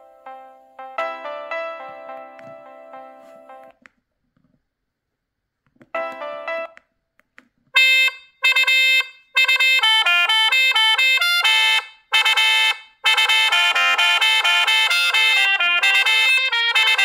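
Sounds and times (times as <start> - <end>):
phone ringtone melody: 0.0 - 3.7, 6.0 - 6.8, 7.8 - 17.0.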